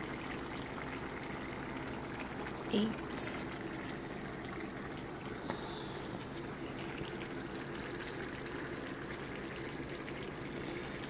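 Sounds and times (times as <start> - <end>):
corn bubbling in a pot: 0.0 - 11.0.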